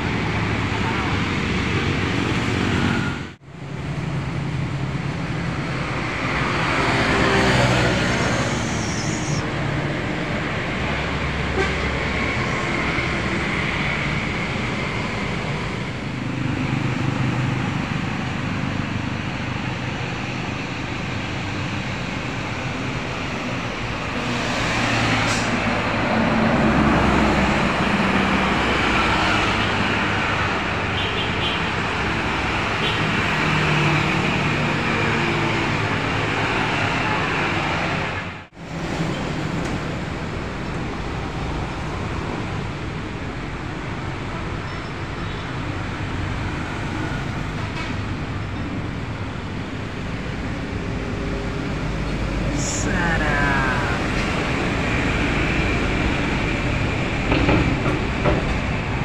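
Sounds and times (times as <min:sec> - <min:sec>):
road traffic driving past: 0:00.0 - 0:59.0.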